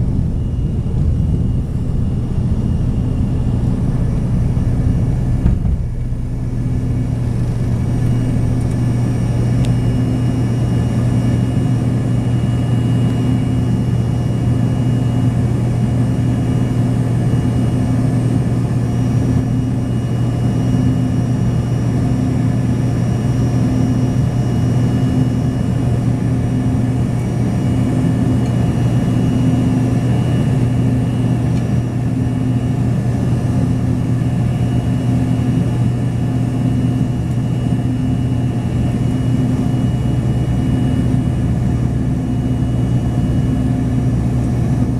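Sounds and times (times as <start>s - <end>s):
faint engine whines: 0.0s - 44.9s
jet engine cabin drone: 0.0s - 44.9s.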